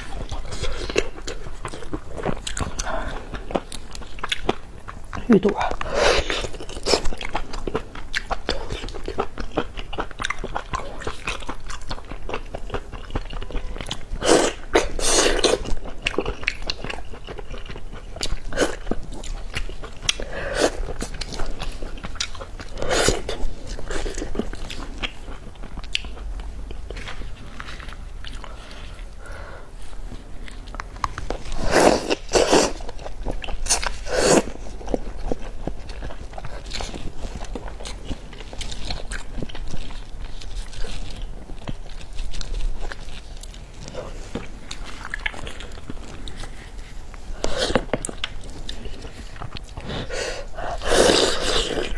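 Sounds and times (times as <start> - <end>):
person chewing food: 0.0 - 51.9.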